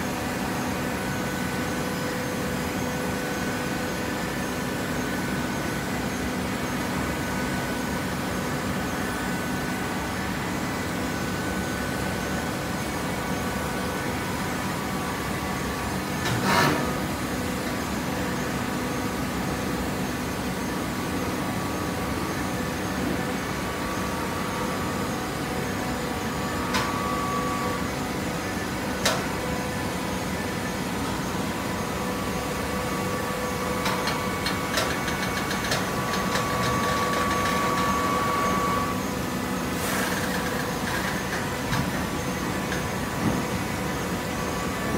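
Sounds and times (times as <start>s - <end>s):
hydraulic power unit hum: 0.0s - 44.9s.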